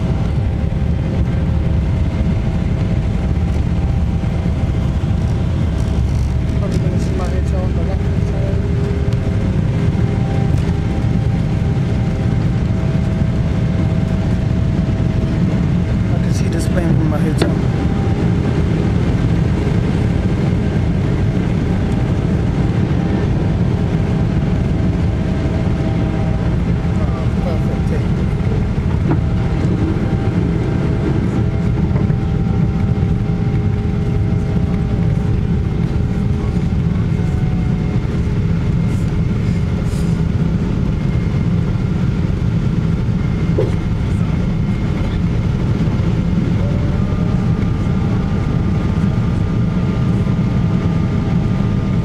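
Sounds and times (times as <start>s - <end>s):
deep rumble of jet engines: 0.0s - 52.0s
whining engine tones: 0.0s - 52.0s.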